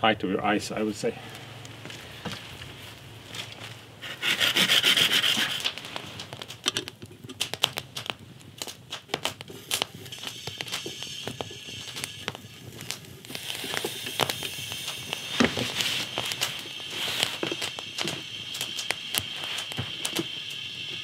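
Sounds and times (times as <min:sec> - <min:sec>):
steady hiss: 0:00.0 - 0:21.0
wood fire crackling and popping: 0:00.7 - 0:21.0.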